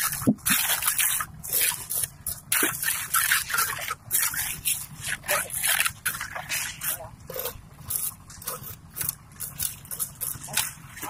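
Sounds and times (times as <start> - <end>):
trowel scraping wet concrete: 0.0 - 11.0.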